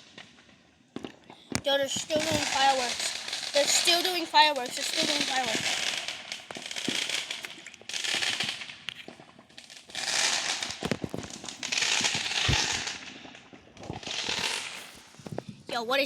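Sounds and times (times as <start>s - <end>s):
fireworks crackling: 0.0s - 16.0s
sharp pops: 1.0s - 15.7s.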